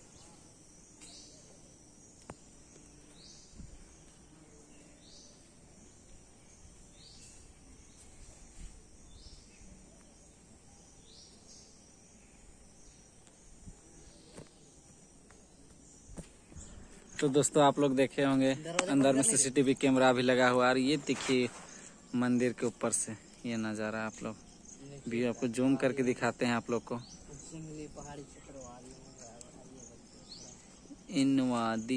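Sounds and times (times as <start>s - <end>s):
insects buzzing: 0.0s - 31.9s
rising insect chirp: 0.0s - 31.9s.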